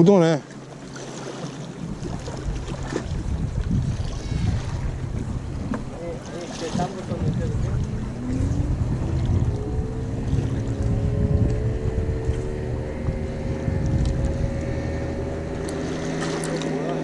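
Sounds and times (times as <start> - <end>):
motorboat engine humming: 0.0 - 17.0
wind on microphone: 1.8 - 17.0.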